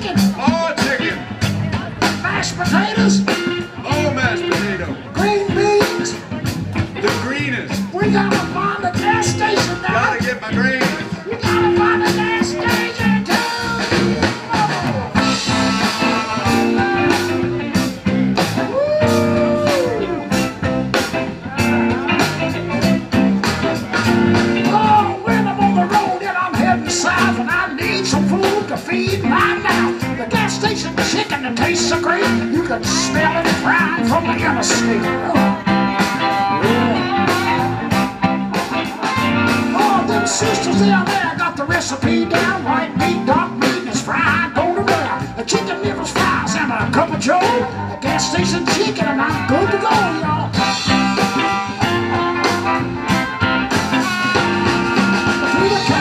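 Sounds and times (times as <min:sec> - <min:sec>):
electric guitar: 0:00.0 - 0:56.0
live blues band playing: 0:00.0 - 0:56.0.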